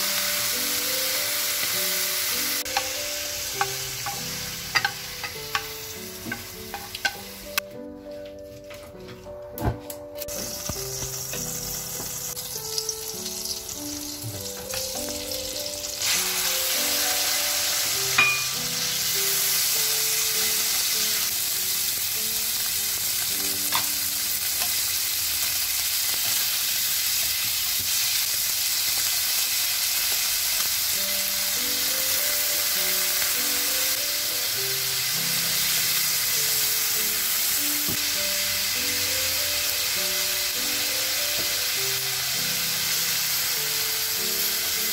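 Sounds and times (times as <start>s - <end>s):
meat sizzling in a frying pan: 0.0s - 7.6s, 10.3s - 44.9s
background music: 0.0s - 26.0s, 30.7s - 44.9s.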